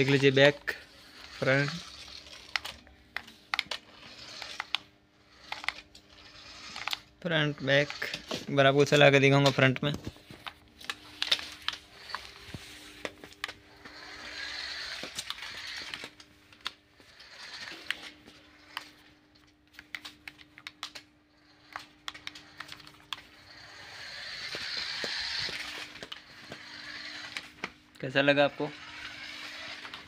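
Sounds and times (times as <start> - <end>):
toy car electric motor whirring: 0.0 - 9.6, 10.3 - 30.0.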